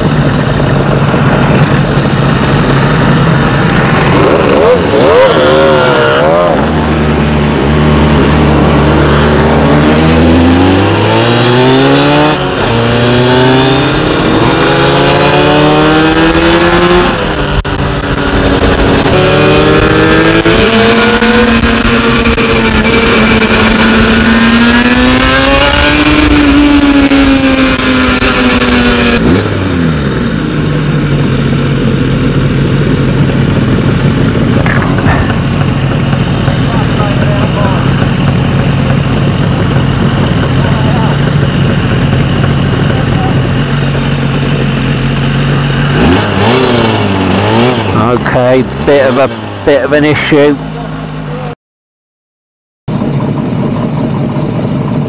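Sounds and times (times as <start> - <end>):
motorcycle engine accelerating: 0.0 - 51.6, 52.9 - 55.0.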